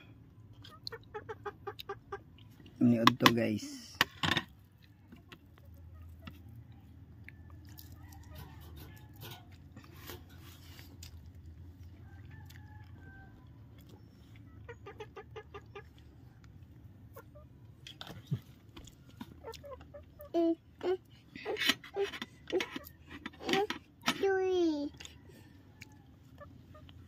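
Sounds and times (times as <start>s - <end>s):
low steady hum: 0.0s - 27.0s
chickens clucking: 0.4s - 3.6s, 4.9s - 23.9s, 25.0s - 27.0s.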